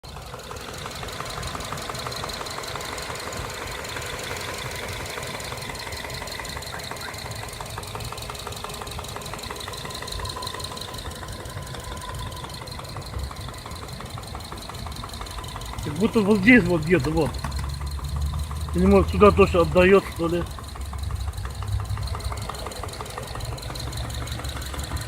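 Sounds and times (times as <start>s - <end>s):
engine idling with rapid knock: 0.0s - 25.0s.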